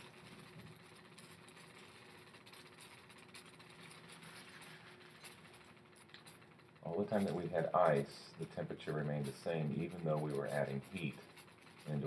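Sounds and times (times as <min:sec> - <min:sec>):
faint room hum: 0:00.0 - 0:12.0
thin constant tone: 0:00.0 - 0:12.0.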